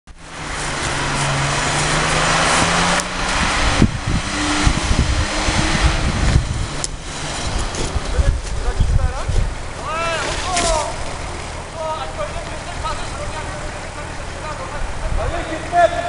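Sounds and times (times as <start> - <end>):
engine running under load: 0.1 - 16.0.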